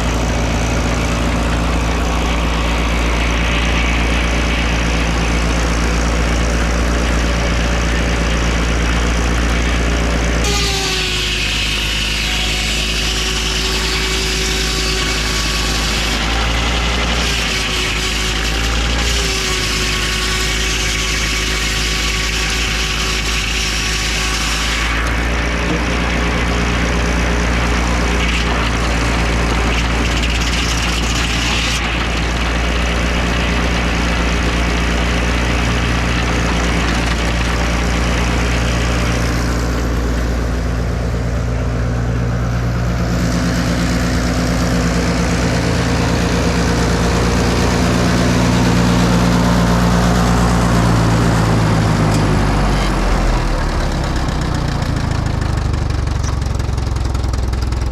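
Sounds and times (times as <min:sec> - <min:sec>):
engine running loudly: 0:00.0 - 0:57.9.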